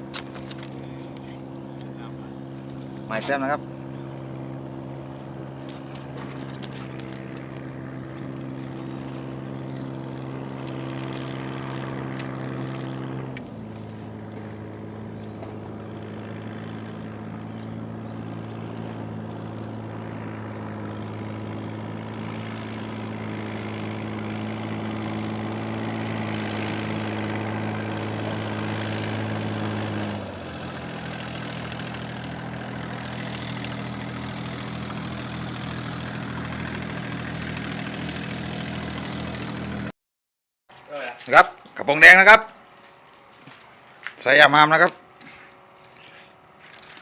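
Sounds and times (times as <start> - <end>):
motorboat engine running: 0.0 - 39.9, 40.8 - 47.0.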